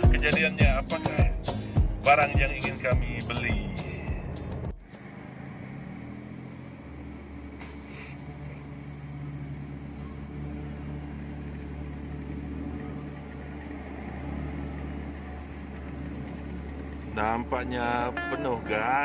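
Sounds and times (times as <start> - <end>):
car engine low hum: 0.0 - 19.0.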